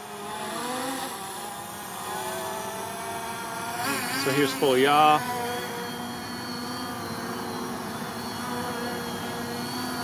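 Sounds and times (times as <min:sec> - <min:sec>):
quadcopter propellers buzzing: 0:00.0 - 0:10.0.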